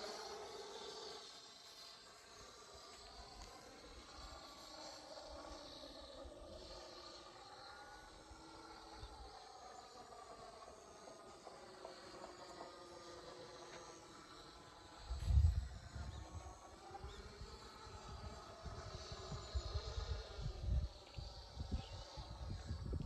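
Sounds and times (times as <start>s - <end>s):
model airplane motor drone: 0.0s - 23.0s.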